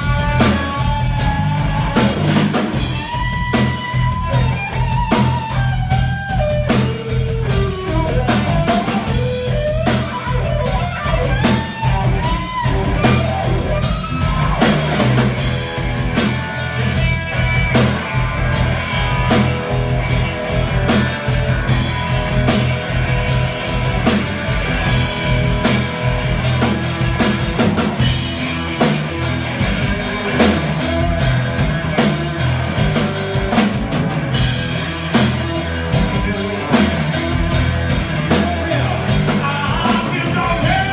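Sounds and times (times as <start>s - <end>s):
blues rock band playing: 0.0s - 40.9s
lead guitar with bending notes: 0.0s - 40.9s.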